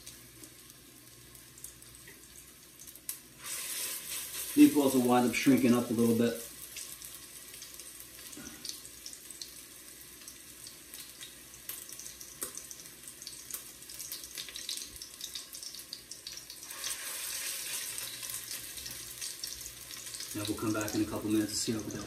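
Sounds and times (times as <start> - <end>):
meatballs sizzling in fat: 0.0 - 22.0.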